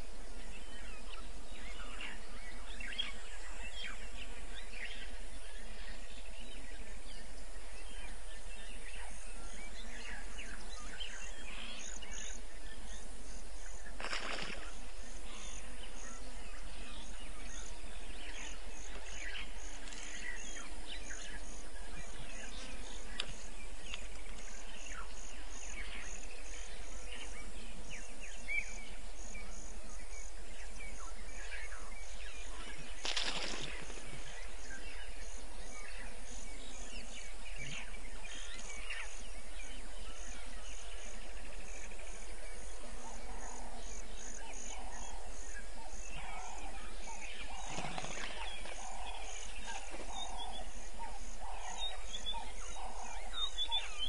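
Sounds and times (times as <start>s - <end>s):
insects chirping: 0.0s - 54.0s
steady low hum: 0.0s - 54.0s
low repeated animal calls: 8.1s - 54.0s.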